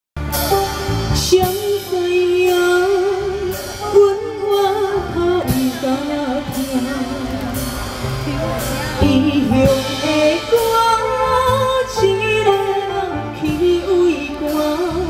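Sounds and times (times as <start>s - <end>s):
amplified backing music: 0.2s - 15.0s
woman singing into microphone: 1.2s - 7.5s, 9.0s - 15.0s.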